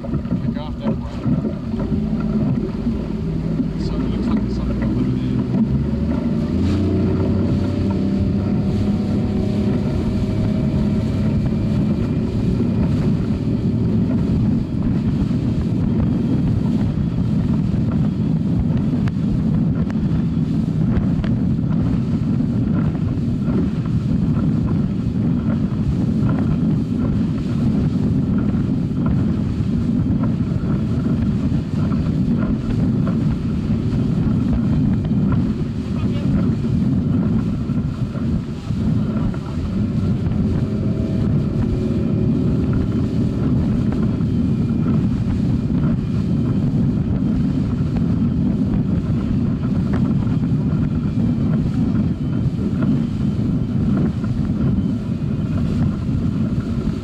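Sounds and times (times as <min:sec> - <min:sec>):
outboard motor: 0:00.0 - 0:57.0
rushing water: 0:00.0 - 0:57.0
wind buffeting microphone: 0:00.0 - 0:57.0.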